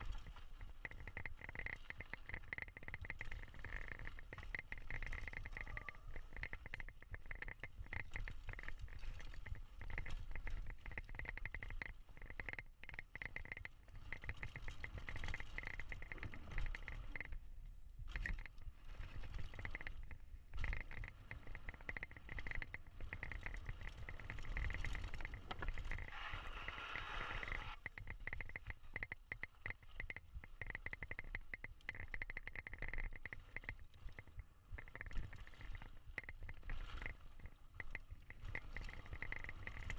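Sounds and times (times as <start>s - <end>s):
bike clicking rattle: 0.1s - 17.3s, 18.1s - 39.9s.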